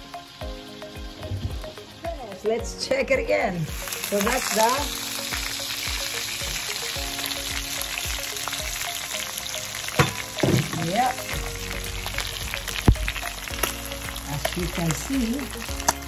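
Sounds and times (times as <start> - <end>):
meat sizzling in a skillet: 0.0 - 16.0.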